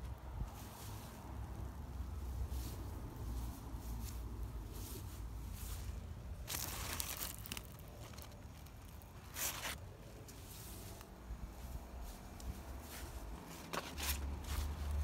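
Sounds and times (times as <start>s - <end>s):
leaves and grass rustling: 0.0s - 15.0s.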